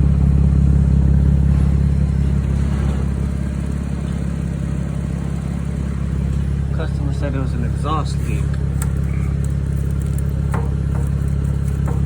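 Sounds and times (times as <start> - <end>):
car engine rumbling exhaust leak: 0.0 - 12.0.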